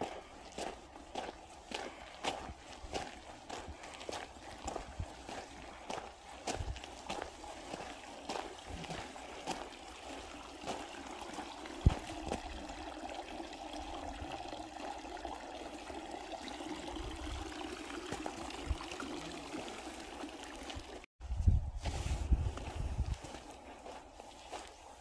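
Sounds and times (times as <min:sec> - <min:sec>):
water trickling into stone basin: 0:00.0 - 0:21.1.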